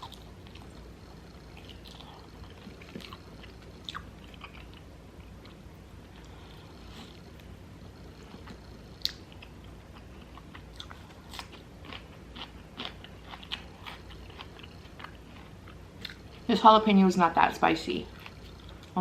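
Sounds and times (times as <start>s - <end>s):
person chewing crunchy food: 0.0s - 16.5s, 18.1s - 19.0s.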